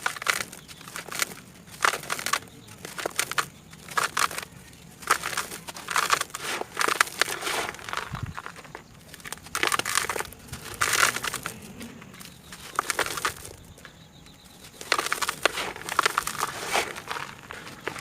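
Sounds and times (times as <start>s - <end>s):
brittle material crunching: 0.0s - 18.0s.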